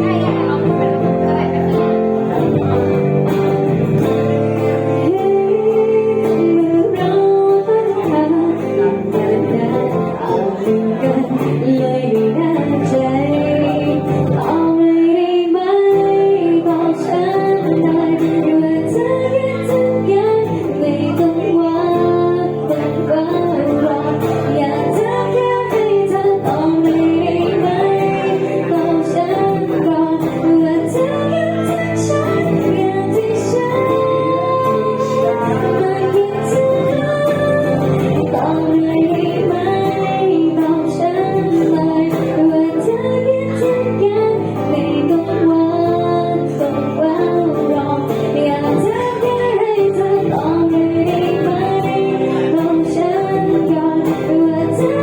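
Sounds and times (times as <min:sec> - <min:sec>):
guitar accompaniment: 0:00.0 - 0:55.0
woman singing: 0:00.0 - 0:55.0.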